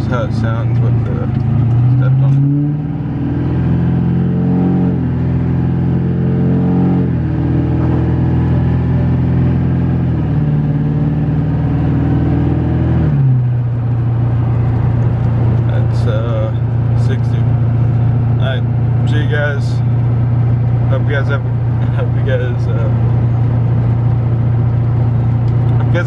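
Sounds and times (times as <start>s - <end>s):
pickup engine running while driving: 0.0s - 26.0s.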